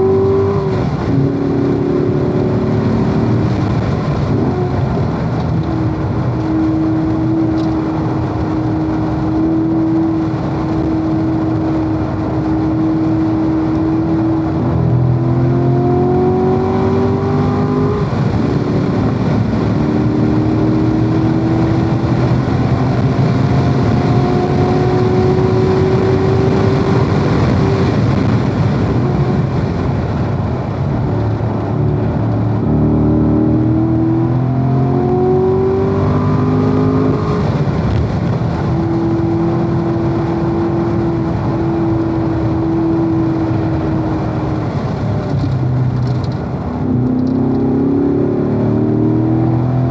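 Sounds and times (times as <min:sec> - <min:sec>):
car engine accelerating through gears: 0:00.0 - 0:49.9
road and wind noise: 0:00.0 - 0:49.9.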